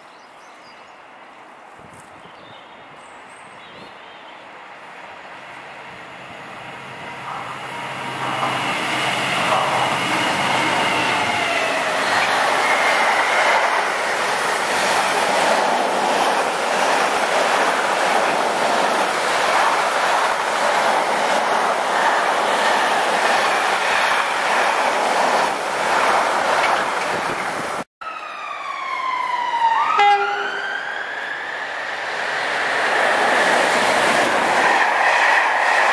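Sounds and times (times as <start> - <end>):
diesel locomotive engine passing: 4.4 - 35.9.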